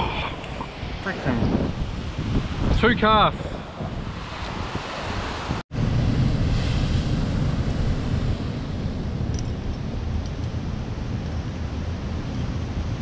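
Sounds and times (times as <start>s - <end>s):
ocean surf on rocks: 0.0s - 13.0s
wind buffeting microphone: 0.0s - 13.0s.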